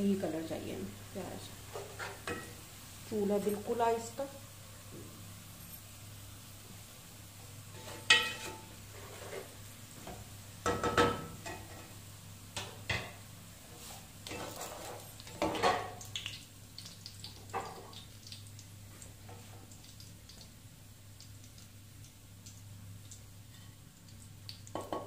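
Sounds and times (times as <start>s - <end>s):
oil sizzling: 0.0s - 25.0s.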